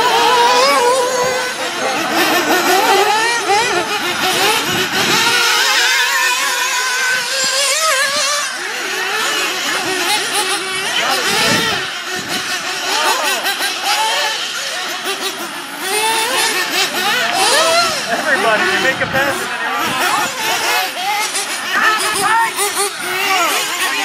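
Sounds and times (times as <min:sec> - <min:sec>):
rc car engines screaming: 0:00.0 - 0:24.0.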